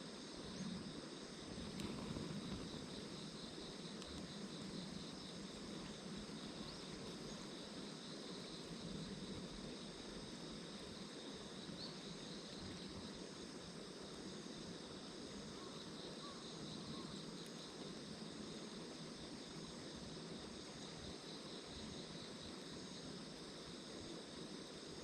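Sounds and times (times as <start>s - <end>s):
insects trilling: 0.0s - 25.0s
low hiss: 0.0s - 25.0s.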